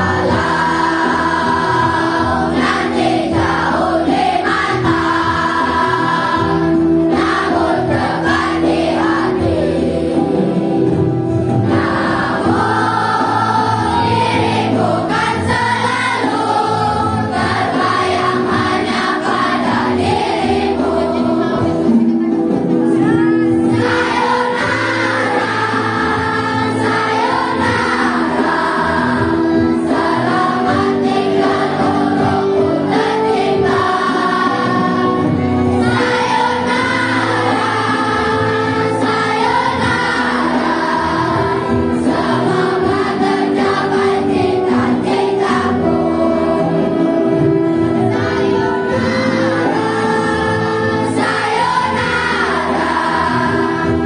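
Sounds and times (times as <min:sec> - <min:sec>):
children's choir singing: 0:00.0 - 0:54.0
instrumental backing track: 0:00.0 - 0:54.0.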